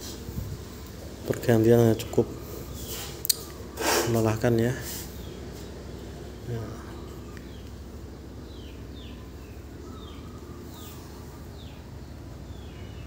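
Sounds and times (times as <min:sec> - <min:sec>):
steady low hum: 0:00.0 - 0:13.0
small bird chirping: 0:00.4 - 0:13.0.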